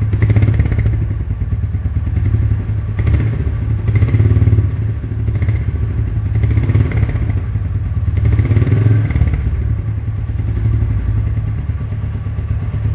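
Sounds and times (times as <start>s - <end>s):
motorcycle engine revving and idling: 0.0s - 12.9s.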